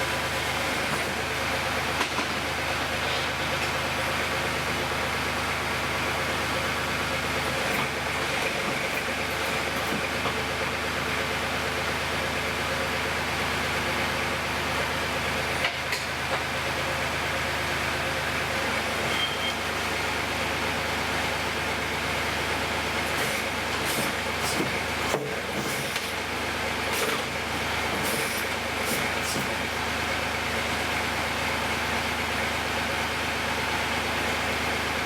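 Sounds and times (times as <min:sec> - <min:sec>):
heavy equipment engine running: 0:00.0 - 0:35.0.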